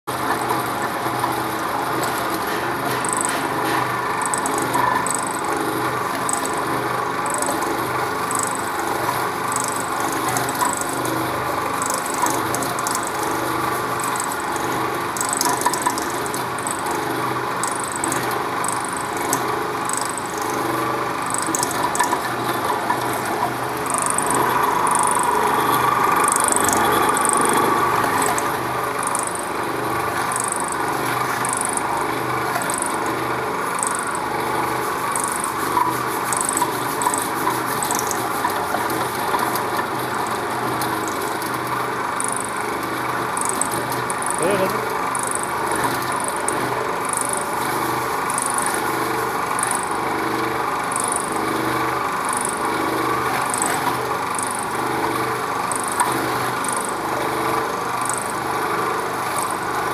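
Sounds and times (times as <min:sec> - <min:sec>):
electric grinder grinding: 0:00.2 - 0:59.9.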